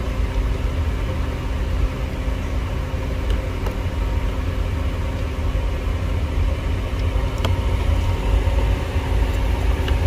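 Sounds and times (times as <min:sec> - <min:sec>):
radiator fan droning: 0:00.0 - 0:10.0.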